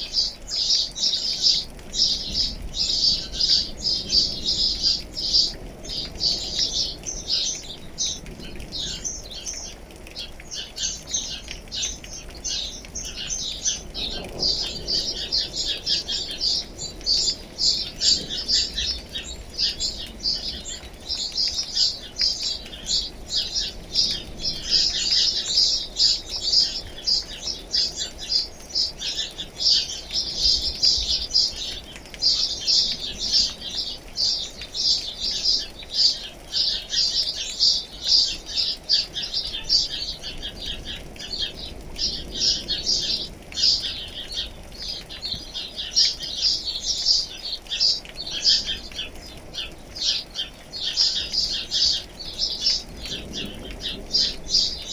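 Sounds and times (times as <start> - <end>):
birds chirping: 0.0 - 54.9
faint rain hiss: 0.0 - 54.9.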